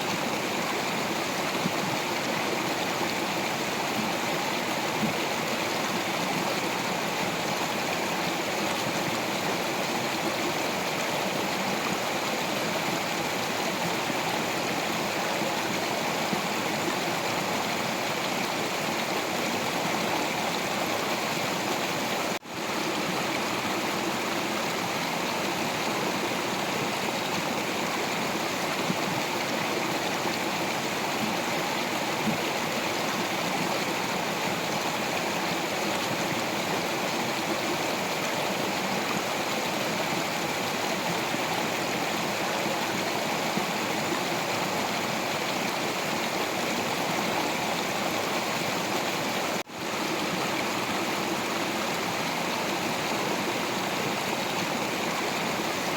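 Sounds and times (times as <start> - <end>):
stream water flowing over rocks: 0.0 - 55.9.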